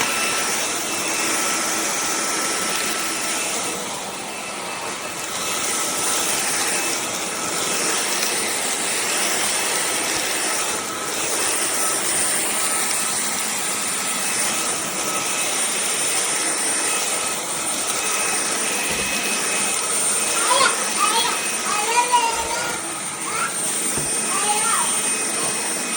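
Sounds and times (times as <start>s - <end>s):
vacuum cleaner running: 0.0s - 25.9s.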